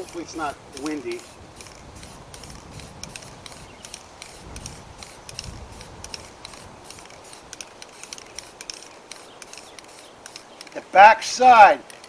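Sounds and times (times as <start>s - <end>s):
light clicks and ticks: 0.0s - 10.8s.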